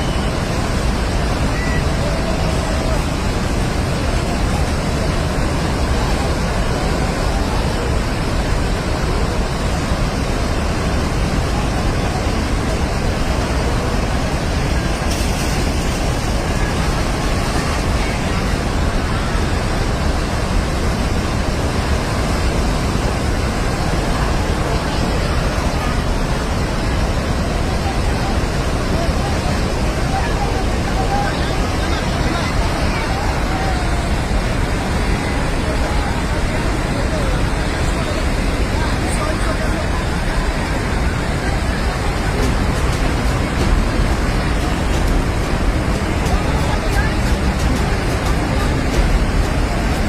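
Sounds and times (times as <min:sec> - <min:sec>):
rushing floodwater roar: 0:00.0 - 0:50.0.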